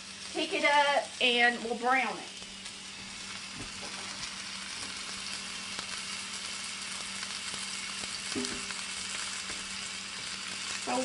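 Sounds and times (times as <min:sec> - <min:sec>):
meat searing in hot oil: 0:00.0 - 0:11.0.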